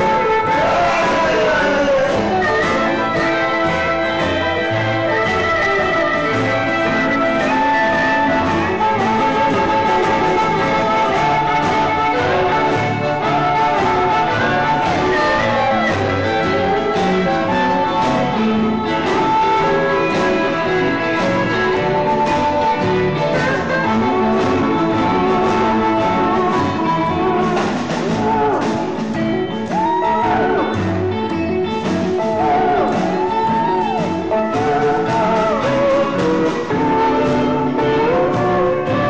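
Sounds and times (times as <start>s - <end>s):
person singing: 0.0s - 39.0s
rockabilly band playing: 0.0s - 39.0s
slapped upright bass: 0.0s - 39.0s.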